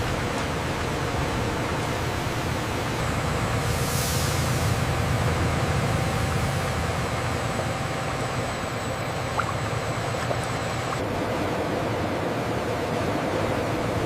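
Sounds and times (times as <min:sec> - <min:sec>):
faint steady whine: 0:00.0 - 0:11.3
machinery humming: 0:00.0 - 0:14.0.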